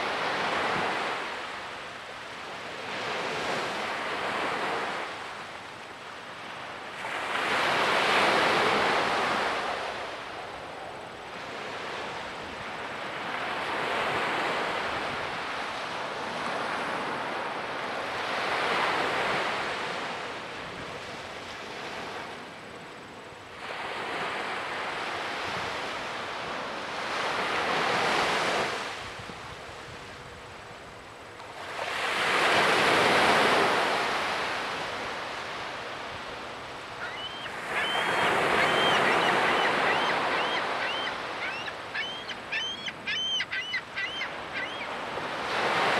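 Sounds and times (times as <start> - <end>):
small waves breaking on beach: 0.0 - 22.6, 23.5 - 45.9.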